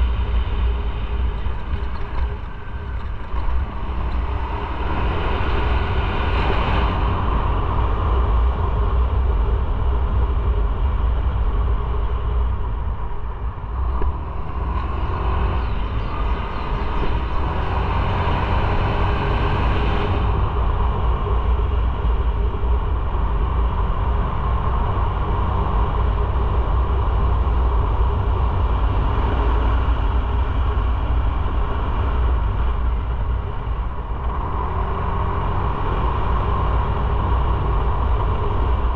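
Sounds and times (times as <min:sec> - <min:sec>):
deep low rumble: 0:00.0 - 0:38.9
road noise: 0:00.0 - 0:38.9.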